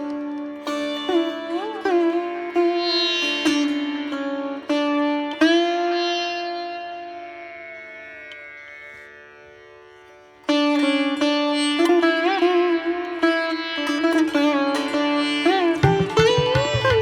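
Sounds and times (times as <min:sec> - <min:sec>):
plucked string instrument: 0:00.0 - 0:07.6, 0:10.5 - 0:17.0.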